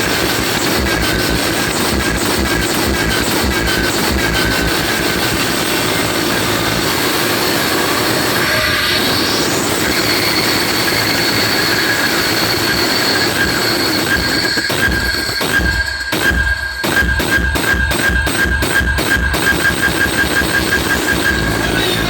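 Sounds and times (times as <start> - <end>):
loud distorted sound system roar: 0.0 - 22.0.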